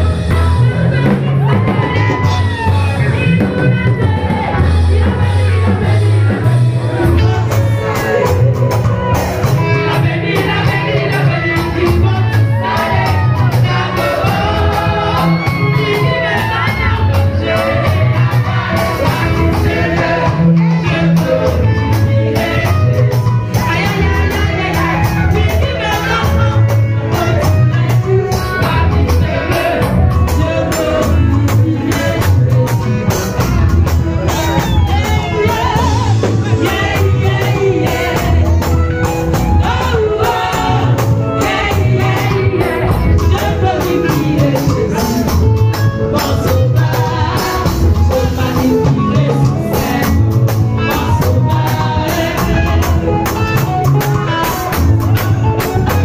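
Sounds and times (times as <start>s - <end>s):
women singing gospel: 0.0s - 54.8s
repeating bass line: 0.0s - 56.0s
shaking percussion: 0.0s - 56.0s.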